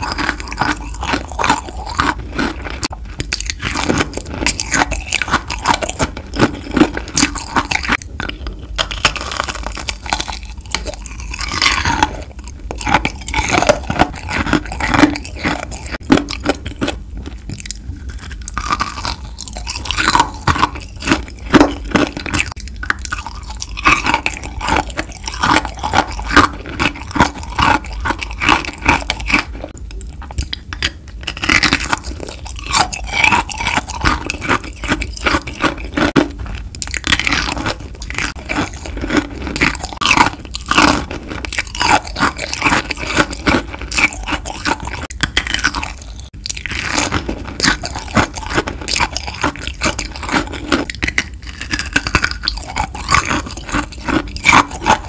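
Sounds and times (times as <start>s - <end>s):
candy crunching and chewing: 0.0s - 55.0s.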